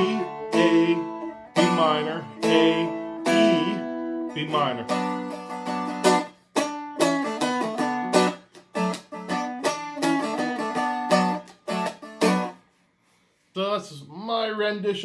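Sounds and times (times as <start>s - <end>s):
strummed string instrument chords: 0.0s - 12.5s.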